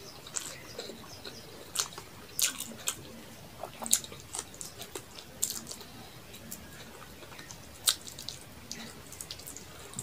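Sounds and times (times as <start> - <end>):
wet chewing and mouth clicks: 0.0 - 10.0.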